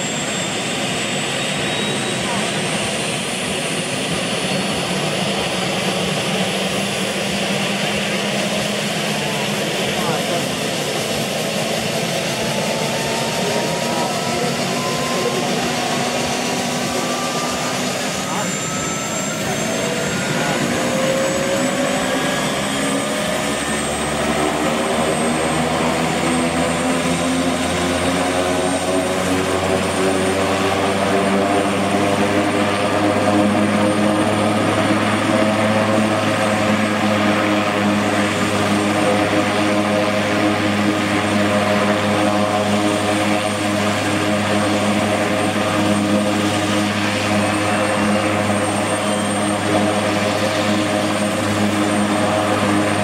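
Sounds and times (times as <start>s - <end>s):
helicopter engines whining: 0.0s - 53.0s
helicopter rotors turning: 0.0s - 53.0s.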